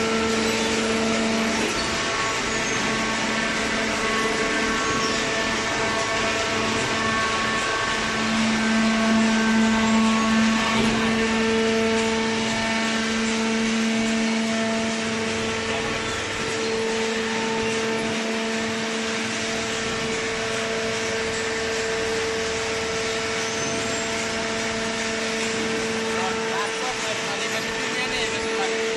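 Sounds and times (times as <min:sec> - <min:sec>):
hydraulic baler hum and whine: 0:00.0 - 0:28.9.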